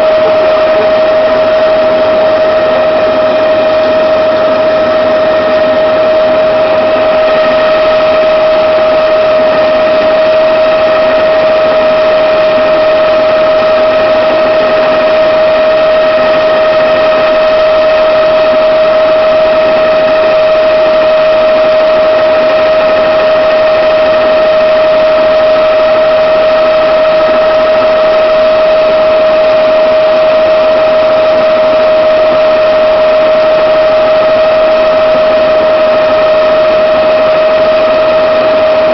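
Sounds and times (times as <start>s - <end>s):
helicopter in flight: 0.0s - 38.9s.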